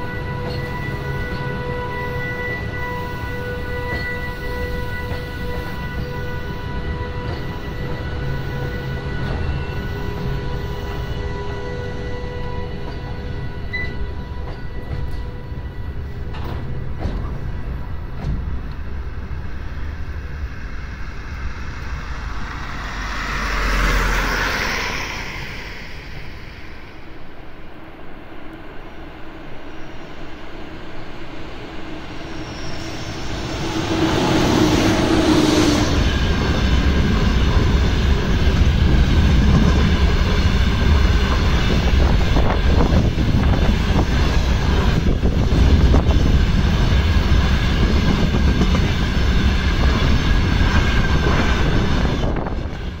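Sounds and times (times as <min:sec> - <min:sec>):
locomotive humming: 0:00.0 - 0:53.0.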